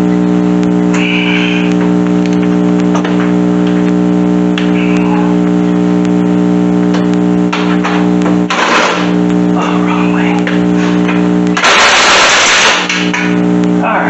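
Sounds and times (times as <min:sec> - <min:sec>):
loud droning hum: 0:00.0 - 0:14.0.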